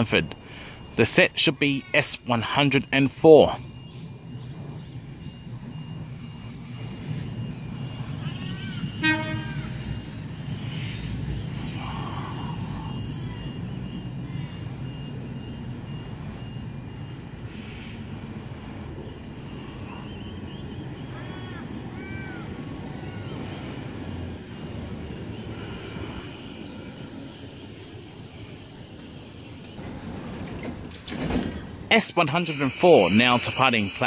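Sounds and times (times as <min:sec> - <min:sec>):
electric train rumbling: 0:00.0 - 0:34.0.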